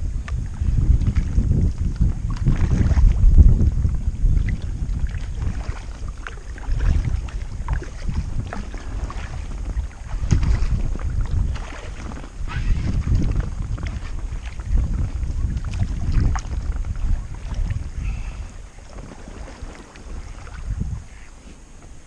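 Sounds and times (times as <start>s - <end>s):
wind buffeting microphone: 0.0s - 22.0s
paddling water splashes: 0.2s - 22.0s.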